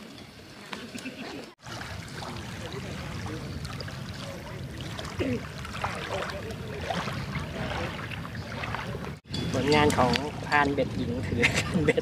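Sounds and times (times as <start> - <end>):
faint distant voices: 0.0 - 10.4
water lapping at shore: 0.0 - 12.0
wind rumble on microphone: 1.7 - 12.0.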